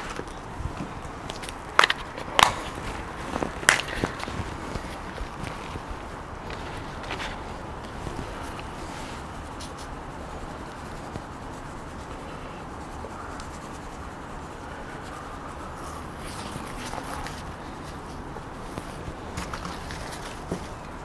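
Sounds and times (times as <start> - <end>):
gloved hands rubbing meat: 0.0 - 21.0
steady background noise: 0.0 - 21.0.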